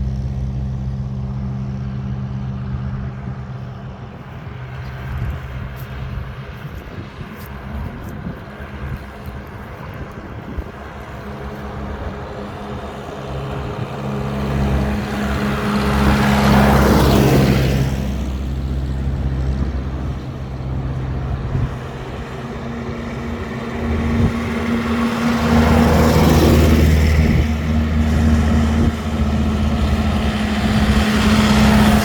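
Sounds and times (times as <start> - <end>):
tractors driving past: 0.0 - 32.0.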